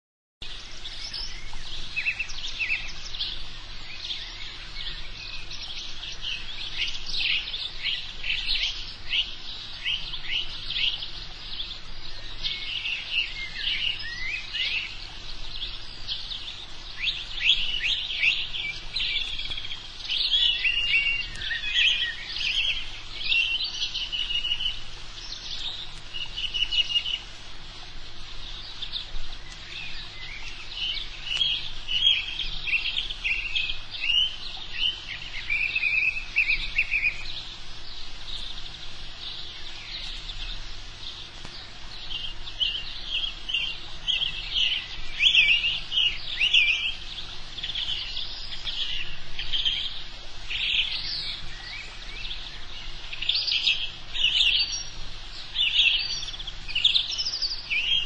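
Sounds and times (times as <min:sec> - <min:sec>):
songbirds chirping and singing: 0:00.4 - 0:58.0.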